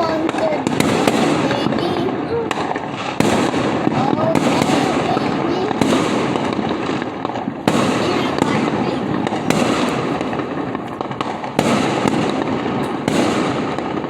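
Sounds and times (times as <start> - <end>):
fireworks crackling and popping: 0.0 - 14.0
sharp firework bang: 0.0 - 14.0.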